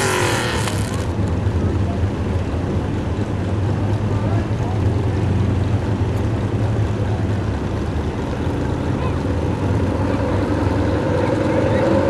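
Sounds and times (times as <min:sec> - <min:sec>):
truck engine idling: 0:00.6 - 0:12.0.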